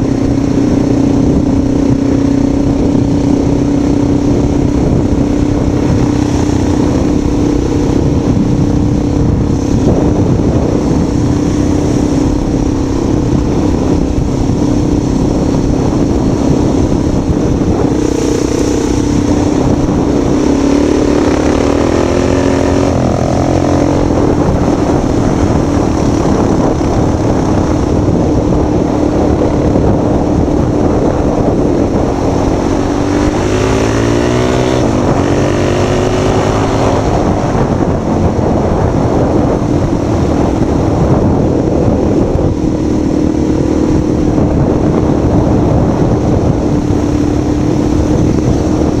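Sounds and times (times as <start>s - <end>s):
heavy rumbling noise: 0.0s - 49.0s
vehicle engine running: 0.0s - 49.0s.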